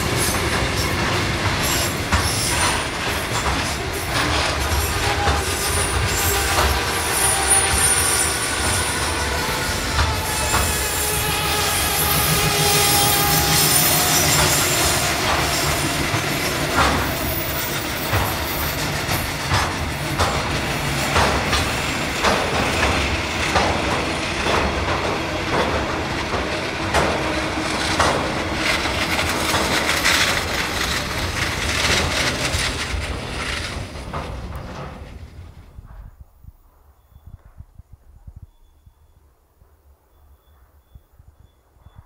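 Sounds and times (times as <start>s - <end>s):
wheels clickety-clack on rail joints: 0.0s - 36.2s
train wheels rumbling on rail: 0.0s - 38.9s.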